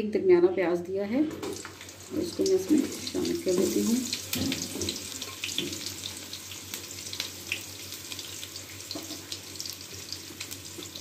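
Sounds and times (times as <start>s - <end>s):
onions sizzling in hot oil: 1.5s - 11.0s.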